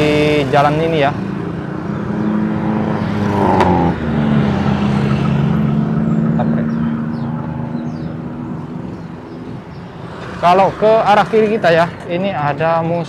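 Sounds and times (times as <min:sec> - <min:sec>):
traffic engines passing: 0:00.0 - 0:13.0.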